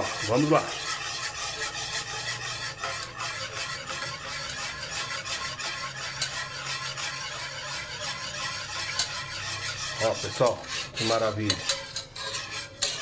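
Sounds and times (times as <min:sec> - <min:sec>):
whisk ticking against pan: 0:00.0 - 0:13.0
wire whisk swishing in a saucepan: 0:00.0 - 0:13.0.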